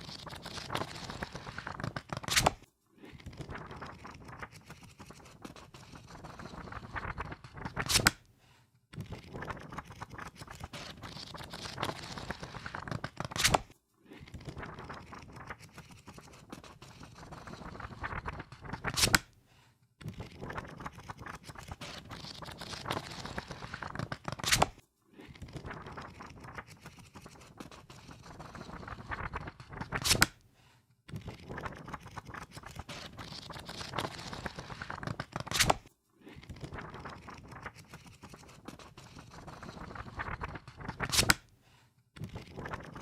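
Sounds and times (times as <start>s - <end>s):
book pages riffled: 0.0s - 8.2s, 9.0s - 19.2s, 20.2s - 30.4s, 31.1s - 41.4s.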